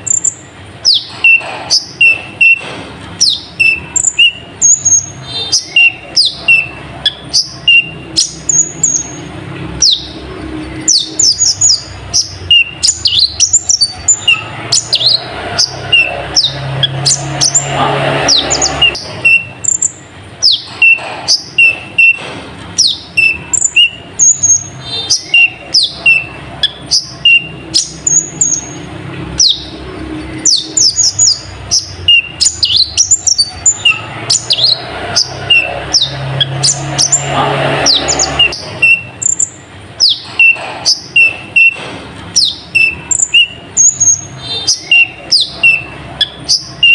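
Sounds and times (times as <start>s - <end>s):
bird singing high chirps: 0.0s - 2.6s, 3.2s - 22.2s, 22.8s - 41.8s, 42.4s - 46.9s.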